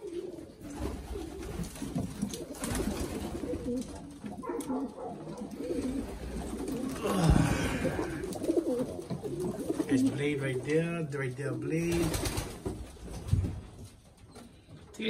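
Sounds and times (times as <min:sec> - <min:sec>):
pigeons cooing: 0:00.0 - 0:12.8.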